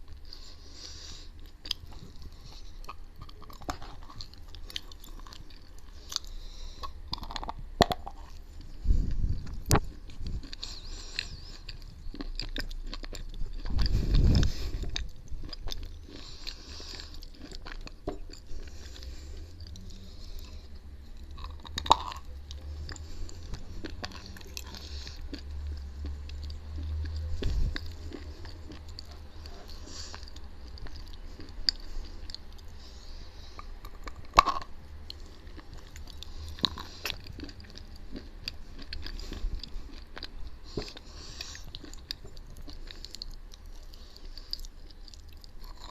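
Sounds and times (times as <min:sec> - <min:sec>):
chewing and crunching: 0:00.0 - 0:45.9.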